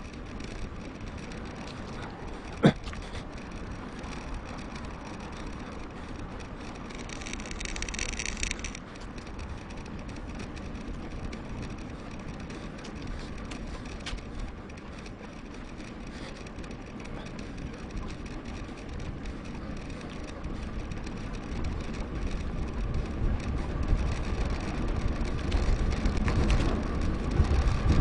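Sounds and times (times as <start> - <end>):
bike tyre rumble: 0.0 - 28.0
wind: 0.0 - 28.0.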